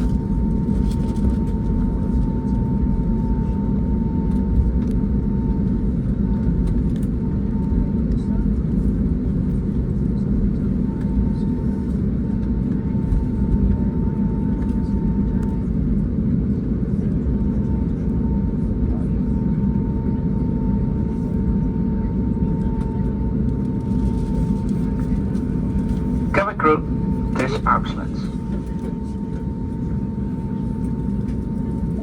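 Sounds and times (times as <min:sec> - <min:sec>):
aircraft engine and airframe rumble: 0:00.0 - 0:32.0.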